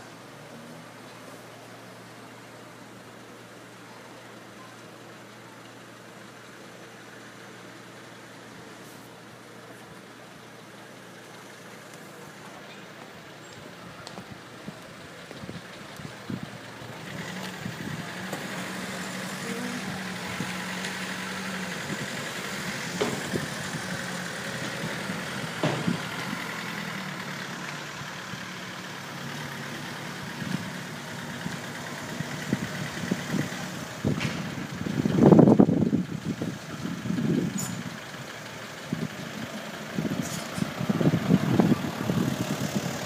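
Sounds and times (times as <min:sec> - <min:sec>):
diesel engines idling: 0:00.0 - 0:43.0.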